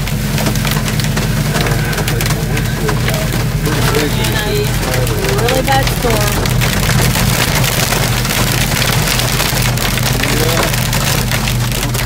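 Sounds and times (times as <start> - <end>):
engine and road drone: 0.0 - 12.0
heavy rain on a windshield: 0.0 - 12.0.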